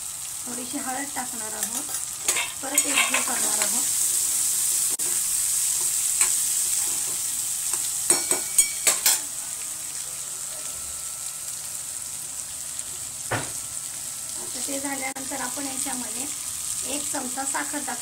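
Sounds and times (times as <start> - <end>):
chickpeas sizzling in oil: 0.0 - 18.0.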